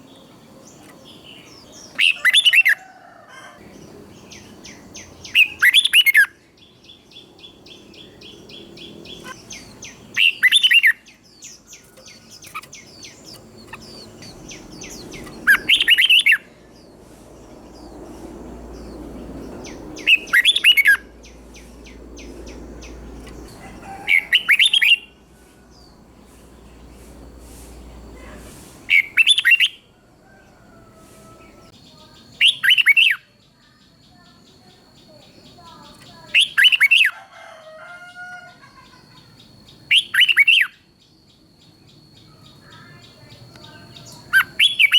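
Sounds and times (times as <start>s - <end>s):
bird singing warbled phrases: 0.0s - 2.8s, 3.6s - 25.2s, 27.8s - 29.9s, 31.4s - 37.2s, 38.6s - 44.9s
faint bird chirps and trills: 0.0s - 44.9s.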